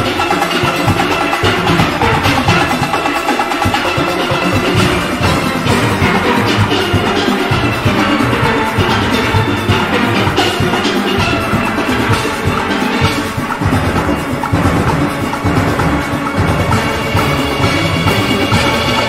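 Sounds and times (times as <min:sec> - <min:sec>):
drum and percussion beat: 0:00.0 - 0:19.0
steelpans playing melody: 0:00.0 - 0:19.0.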